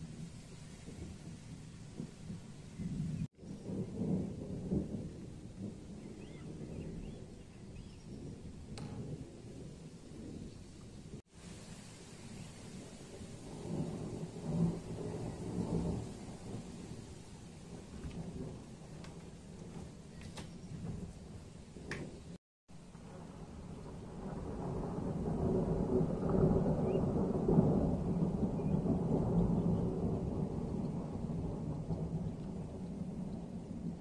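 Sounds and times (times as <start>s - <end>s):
thunder rumbling: 0.0s - 34.0s.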